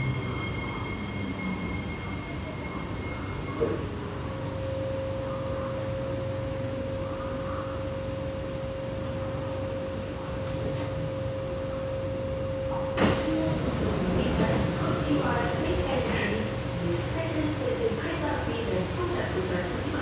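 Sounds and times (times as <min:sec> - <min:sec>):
train car low rumble: 0:00.0 - 0:20.0.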